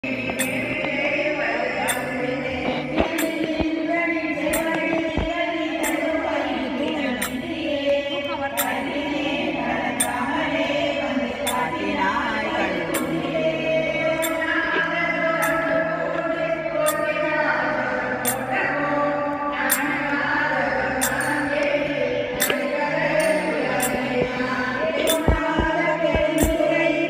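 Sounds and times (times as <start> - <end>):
group chanting verses: 0.0 - 27.0.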